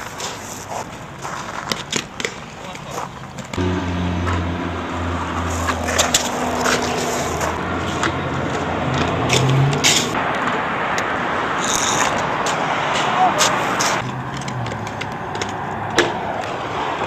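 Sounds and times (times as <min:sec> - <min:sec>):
skates clacking on rail: 0:00.0 - 0:03.6, 0:05.5 - 0:17.0
inline skates grinding on metal rail: 0:00.0 - 0:10.6, 0:11.5 - 0:17.0.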